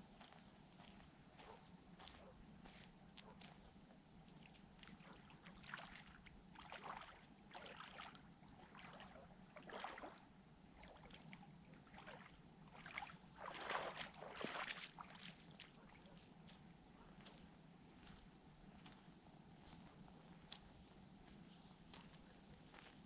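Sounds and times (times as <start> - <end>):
feet splashing in shallow water: 0.2 - 19.0.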